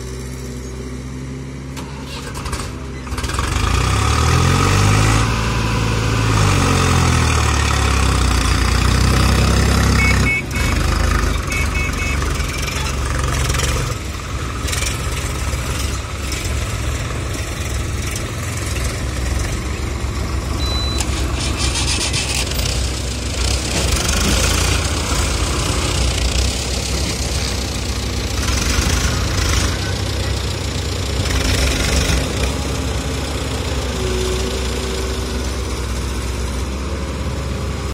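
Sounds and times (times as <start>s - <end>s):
excavator engine running: 0.0s - 37.9s
tractor diesel engine labouring: 0.0s - 37.9s.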